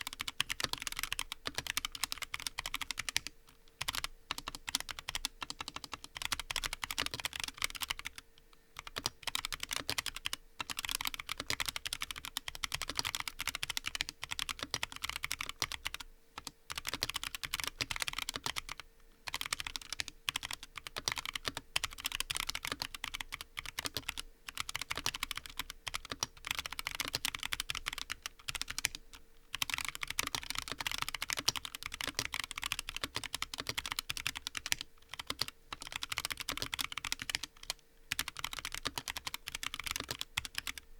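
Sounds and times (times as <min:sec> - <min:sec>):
fast mechanical keyboard typing: 0:00.0 - 0:08.2, 0:08.8 - 0:40.9.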